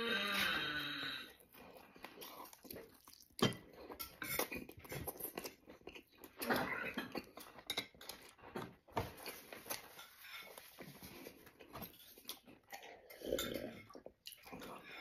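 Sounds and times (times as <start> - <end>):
person chewing wet food: 0.0 - 15.0.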